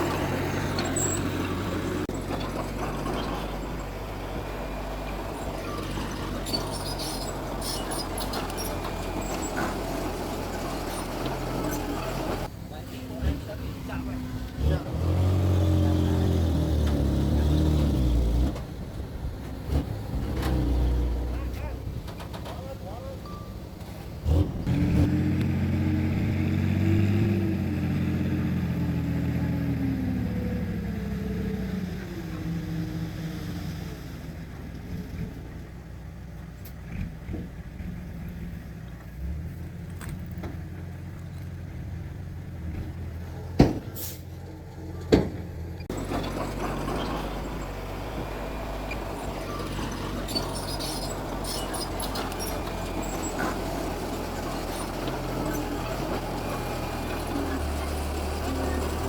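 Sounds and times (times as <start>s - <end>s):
diesel engine running hard: 0.0s - 22.1s, 24.2s - 36.2s, 41.7s - 59.0s.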